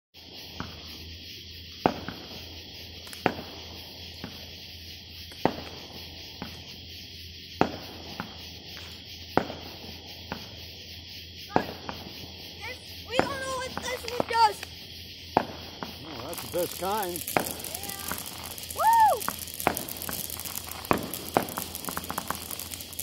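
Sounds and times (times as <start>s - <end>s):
crickets chirring: 0.2s - 23.0s.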